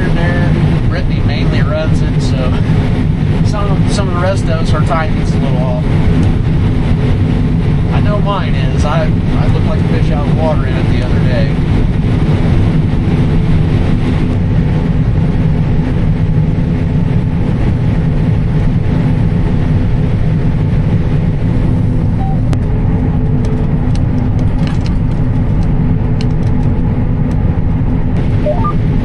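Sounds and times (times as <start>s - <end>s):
combine harvester drone: 0.0s - 29.0s.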